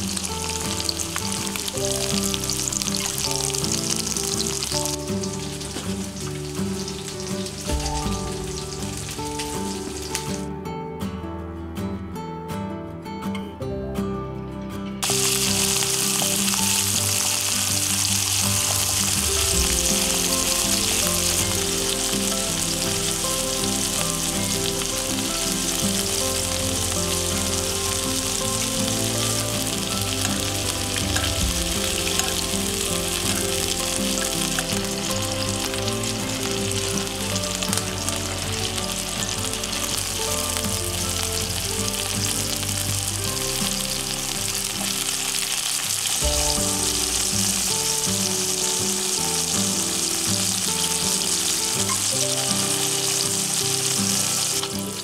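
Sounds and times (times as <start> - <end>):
chicken sizzling in hot oil: 0.0 - 10.5, 15.0 - 55.0.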